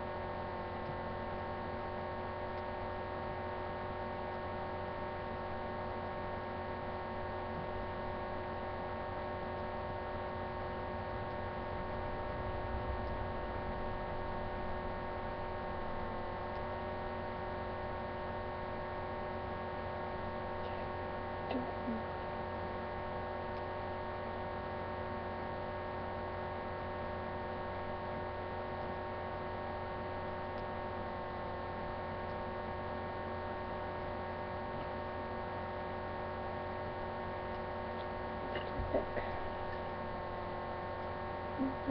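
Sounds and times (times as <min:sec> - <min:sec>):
electrical hum: 0:00.0 - 0:41.9.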